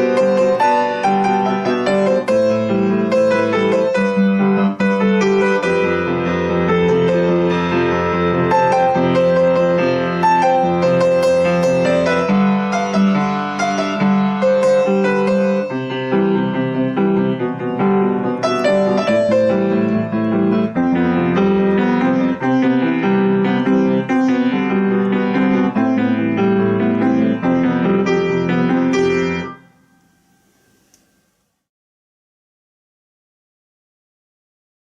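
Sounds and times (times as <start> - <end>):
solo piano pop arrangement: 0.0 - 31.3.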